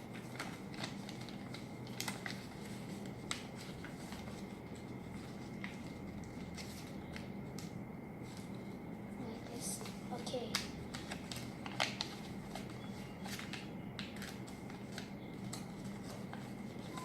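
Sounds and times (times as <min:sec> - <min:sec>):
paper folding and creasing: 0:00.0 - 0:08.5, 0:10.8 - 0:17.0
faint steady hum: 0:00.0 - 0:17.0.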